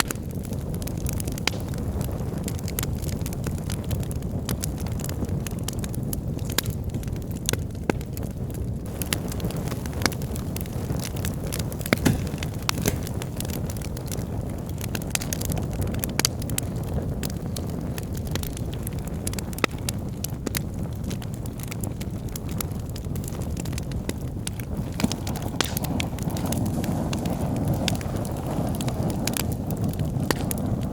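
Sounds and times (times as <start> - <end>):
fire crackles and pops: 0.0 - 30.9
rush of flames: 0.1 - 30.9.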